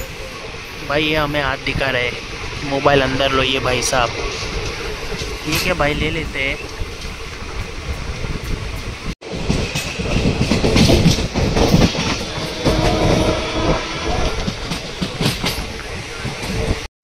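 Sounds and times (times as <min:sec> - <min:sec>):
train rumble: 0:00.0 - 0:16.9
wheels clattering over rail joints: 0:01.6 - 0:16.9.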